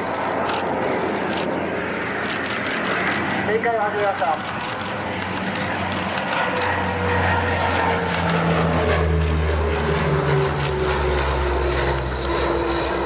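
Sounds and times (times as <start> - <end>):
turboprop aircraft flying past: 0.0 - 13.0.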